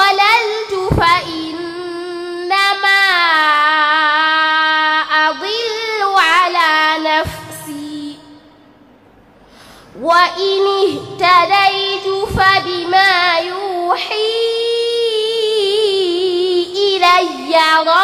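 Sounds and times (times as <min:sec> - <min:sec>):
girl chanting into a microphone: 0:00.0 - 0:08.6, 0:09.9 - 0:18.0.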